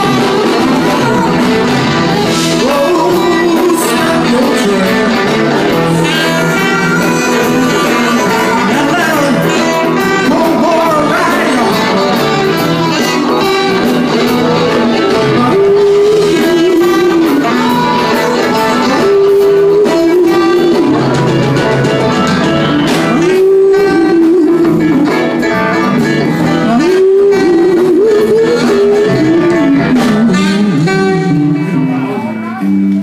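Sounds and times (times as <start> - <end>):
electric guitar lead line: 0.0 - 33.0
live blues band playing: 0.0 - 33.0.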